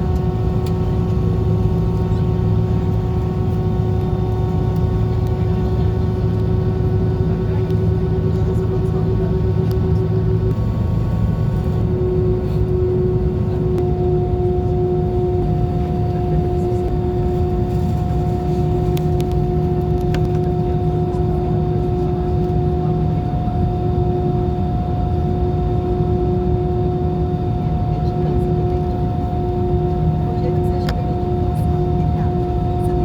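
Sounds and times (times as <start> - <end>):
high engine whine: 0.0 - 33.0
jet engines droning: 0.0 - 33.0.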